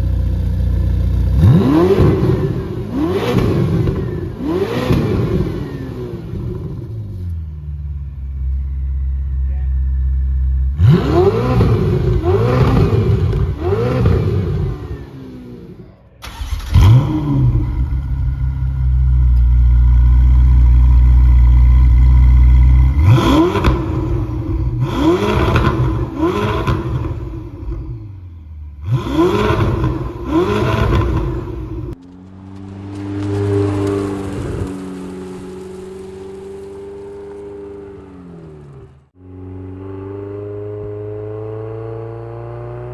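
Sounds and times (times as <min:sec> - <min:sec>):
car engine revving: 0:00.0 - 0:07.3, 0:10.1 - 0:42.9.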